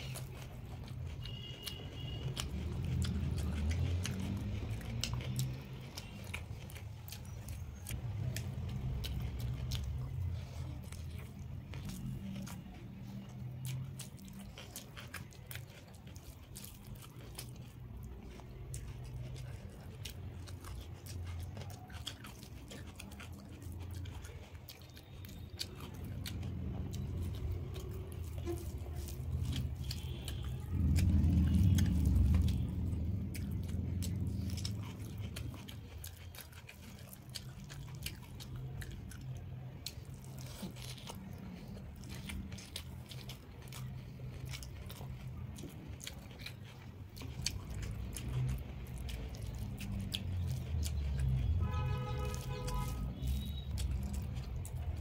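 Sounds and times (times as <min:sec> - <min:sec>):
person chewing food wetly: 0:00.0 - 0:55.0.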